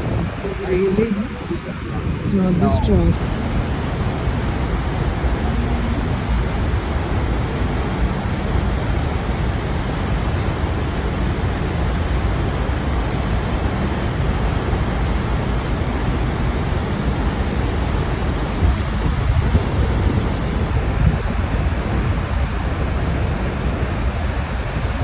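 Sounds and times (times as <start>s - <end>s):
waterfall rushing and crashing: 0.0s - 25.0s.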